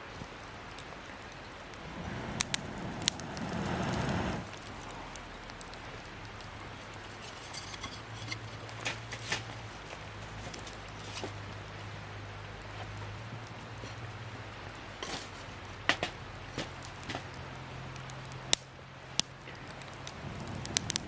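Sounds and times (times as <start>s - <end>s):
campfire crackling: 0.0s - 21.0s
sharp fire pops: 0.1s - 21.0s.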